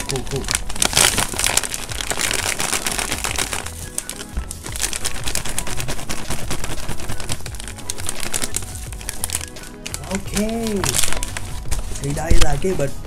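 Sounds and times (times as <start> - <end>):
background music: 0.0 - 13.0
packaging crinkling and rustling: 0.0 - 13.0.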